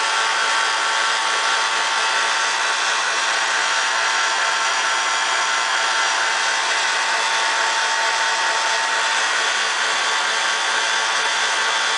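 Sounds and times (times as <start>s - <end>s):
belt sander running: 0.0s - 11.9s.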